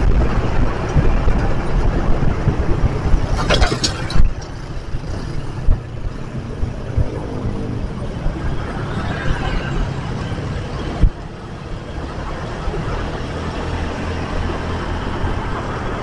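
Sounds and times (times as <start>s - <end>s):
motorcycle engine rumble: 0.0s - 16.0s
wind noise on microphone: 0.0s - 16.0s.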